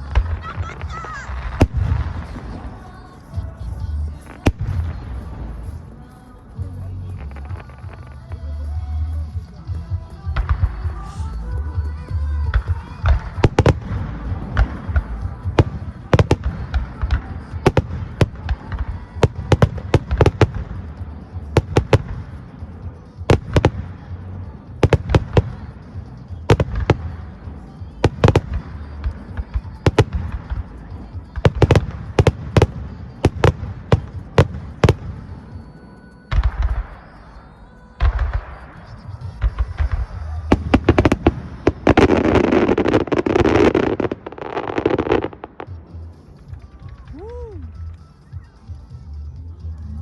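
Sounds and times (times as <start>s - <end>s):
fireworks bursting: 0.0s - 50.0s.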